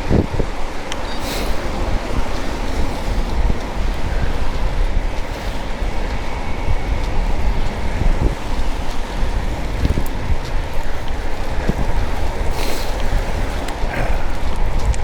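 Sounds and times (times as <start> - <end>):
moving vehicle rumble: 0.0 - 15.0
wind buffeting microphone: 0.0 - 15.0.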